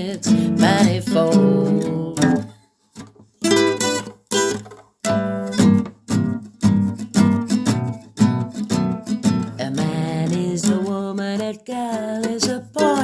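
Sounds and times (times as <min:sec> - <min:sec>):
acoustic guitar strumming chords: 0:00.0 - 0:02.6, 0:03.4 - 0:13.0.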